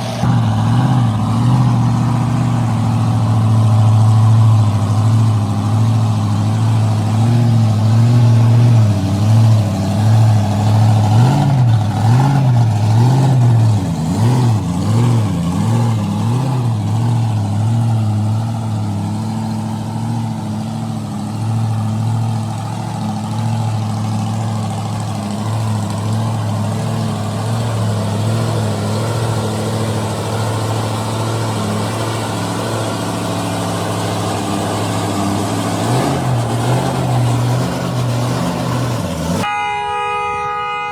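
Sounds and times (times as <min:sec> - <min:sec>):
engine running: 0:00.0 - 0:39.5.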